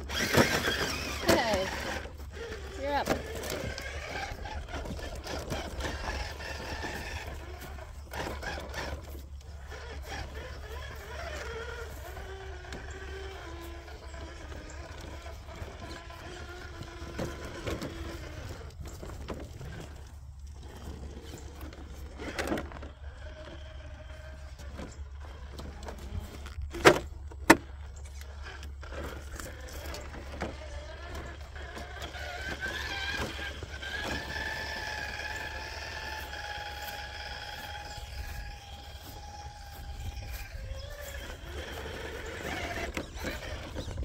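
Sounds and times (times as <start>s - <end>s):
toy truck motor whining: 0.0s - 44.0s.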